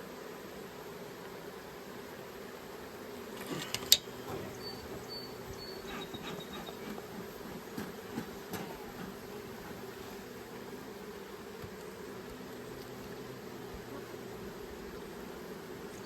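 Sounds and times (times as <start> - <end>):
honeybees humming: 0.0 - 16.0.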